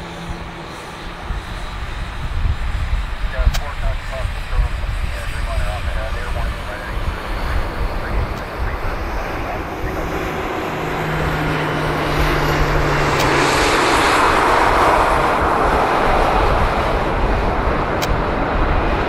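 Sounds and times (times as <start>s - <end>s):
jet engine roar: 0.0s - 19.0s
steady low hum: 0.0s - 19.0s.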